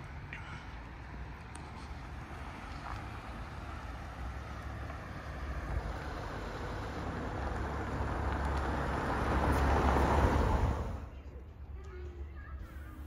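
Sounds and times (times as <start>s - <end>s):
car approaching: 0.0s - 13.0s.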